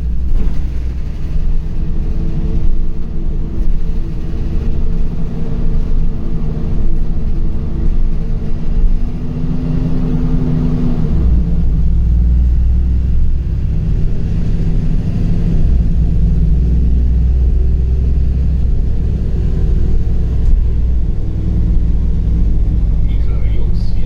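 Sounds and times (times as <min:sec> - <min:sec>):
bus engine and road rumble: 0:00.0 - 0:24.0.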